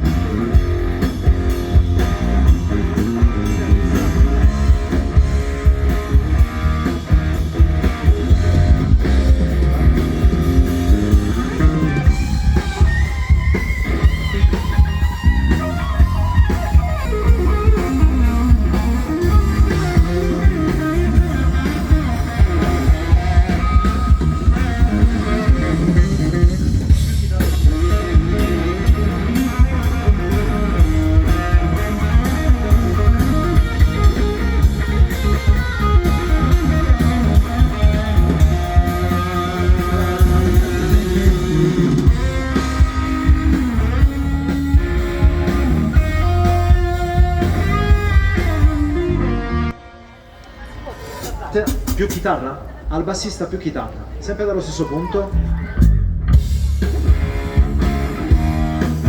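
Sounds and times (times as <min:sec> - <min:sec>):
drum kit beat: 0:00.0 - 0:49.7, 0:51.2 - 0:52.4, 0:55.4 - 0:59.0
electric guitar: 0:00.0 - 0:51.4, 0:55.3 - 0:59.0
bass guitar: 0:00.0 - 0:52.8, 0:54.8 - 0:59.0
keyboards: 0:00.0 - 0:59.0.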